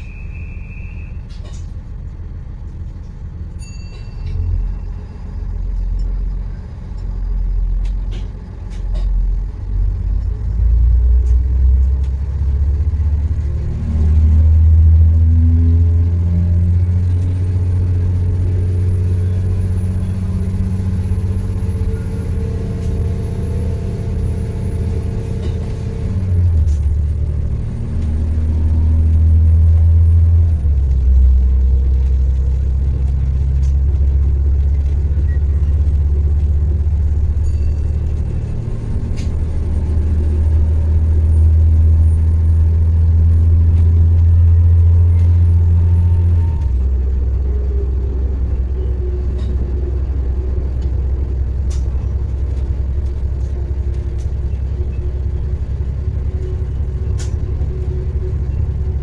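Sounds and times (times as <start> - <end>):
railcar diesel engine rumble: 0.0 - 59.0.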